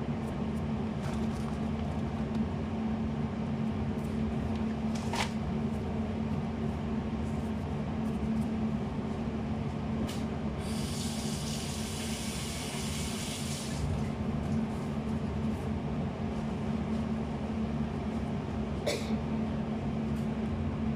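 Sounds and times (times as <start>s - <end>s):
low machine hum: 0.0s - 20.9s.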